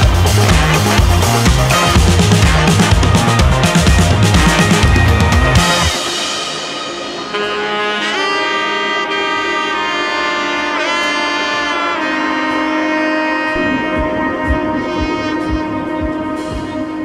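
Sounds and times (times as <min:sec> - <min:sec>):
drums: 0:00.0 - 0:10.9, 0:13.5 - 0:17.0
saxophone sustained notes: 0:00.0 - 0:17.0.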